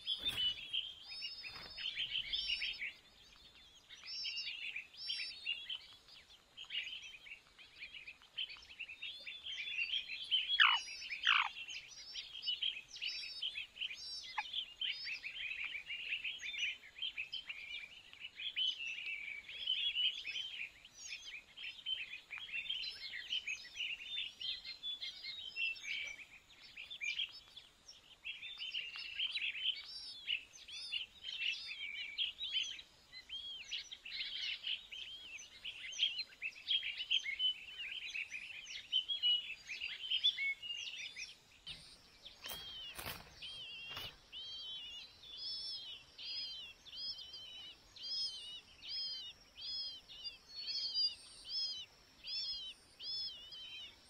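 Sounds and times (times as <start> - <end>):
nestling birds chirping: 0.0 - 54.0.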